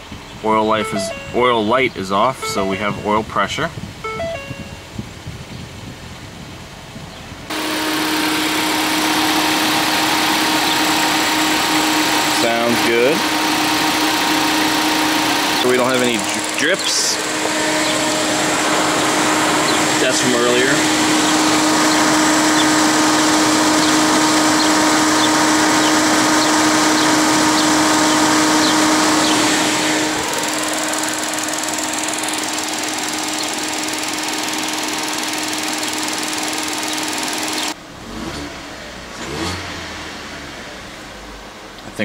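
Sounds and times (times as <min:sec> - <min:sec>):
car engine running: 0:00.0 - 0:01.7, 0:02.3 - 0:03.2, 0:07.5 - 0:41.8.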